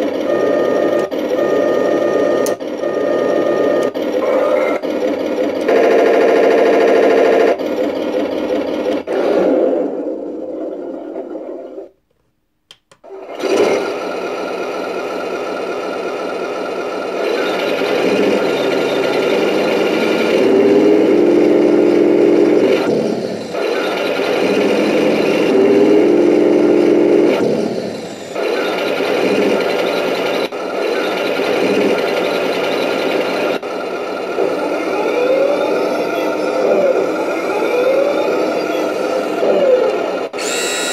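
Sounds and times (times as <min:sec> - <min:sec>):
simulated tank engine sound: 0:00.0 - 0:12.1, 0:12.8 - 0:40.9.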